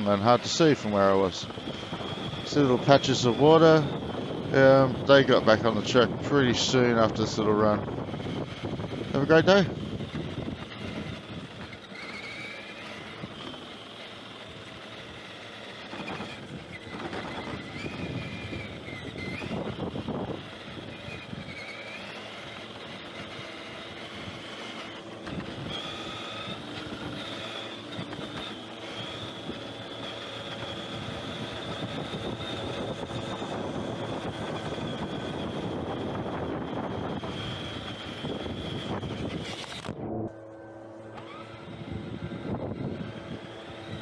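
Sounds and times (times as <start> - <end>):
electric motor whine: 0.0 - 44.0.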